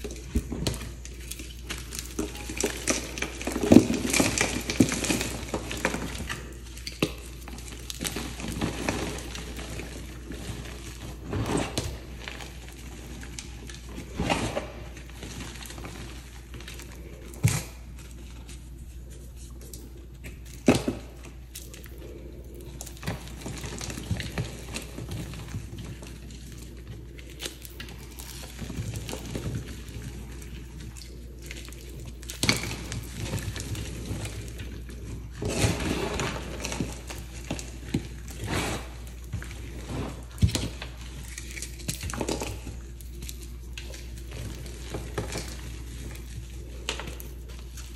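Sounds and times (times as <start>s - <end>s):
chalk crumbling and crunching: 0.0s - 47.9s
hands crushing powder blocks: 0.0s - 47.9s.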